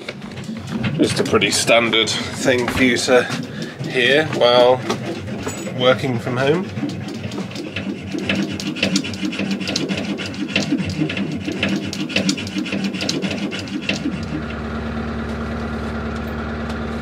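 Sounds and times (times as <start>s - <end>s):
steady engine hum: 0.0s - 17.0s
hand saw cutting metal: 0.8s - 14.6s.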